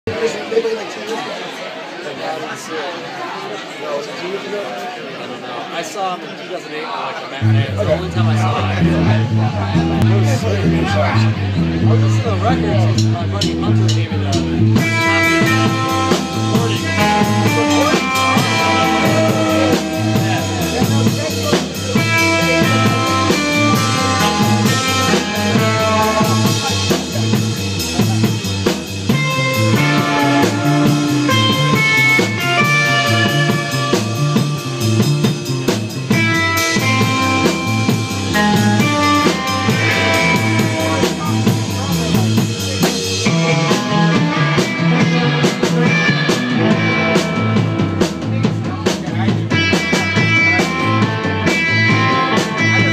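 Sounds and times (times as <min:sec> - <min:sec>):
guitar melody: 0:07.4 - 0:52.9
drum kit beat: 0:07.7 - 0:52.9.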